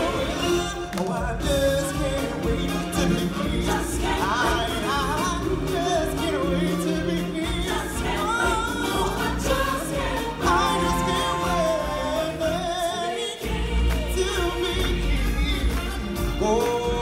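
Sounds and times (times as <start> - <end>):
recorded backing music: 0.0 - 17.0.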